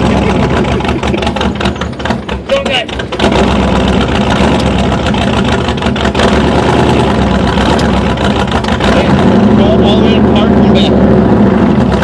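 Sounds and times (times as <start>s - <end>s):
truck engine running loudly: 0.0s - 12.0s.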